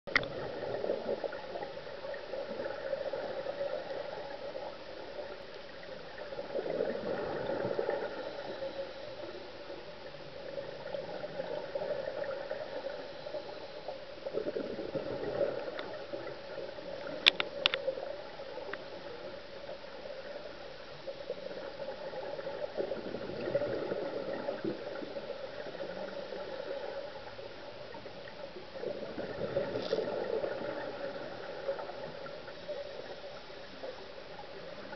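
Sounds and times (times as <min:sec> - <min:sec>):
regulator bubbles gurgling underwater: 0:00.1 - 0:34.9.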